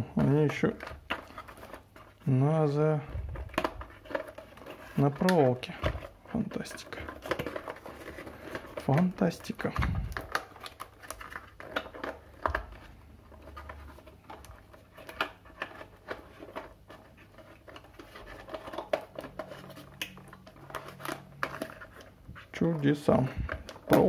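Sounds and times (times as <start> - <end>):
hands handling plastic tray: 0.0 - 2.4, 3.0 - 24.0.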